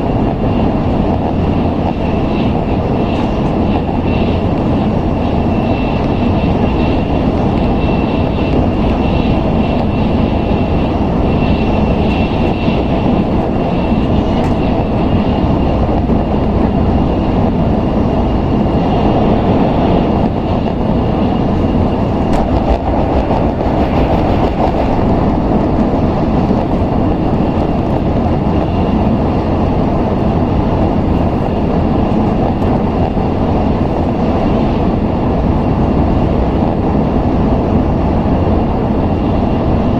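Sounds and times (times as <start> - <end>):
train cabin rumble: 0.0 - 39.9.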